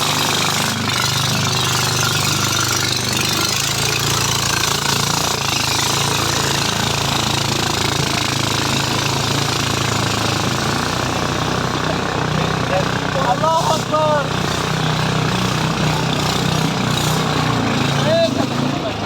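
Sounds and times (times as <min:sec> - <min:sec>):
motor engine running: 0:00.0 - 0:19.0.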